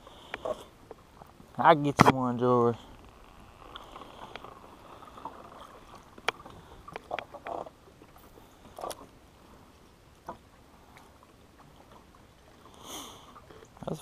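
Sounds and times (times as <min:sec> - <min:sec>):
water lapping at boat: 0:00.0 - 0:14.0.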